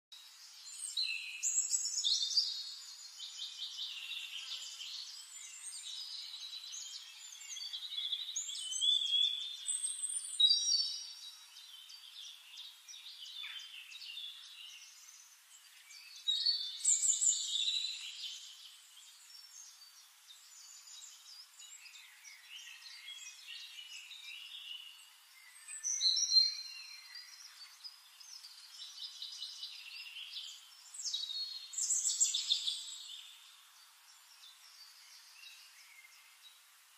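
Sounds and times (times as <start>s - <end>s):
songbirds chirping: 0.1s - 36.9s.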